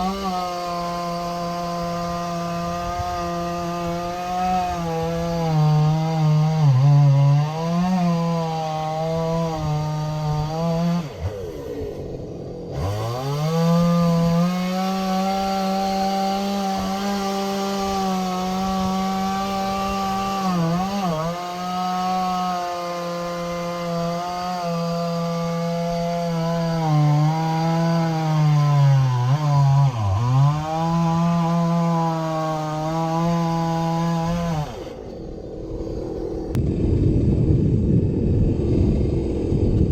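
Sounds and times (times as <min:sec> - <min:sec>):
chainsaw cutting wood: 0:00.0 - 0:36.8.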